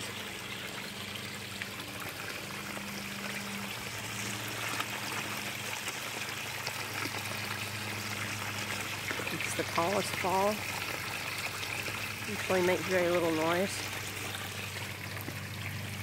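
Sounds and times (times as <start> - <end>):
fountain spray: 0.0 - 16.0
waterfall splashing into pond: 0.0 - 16.0.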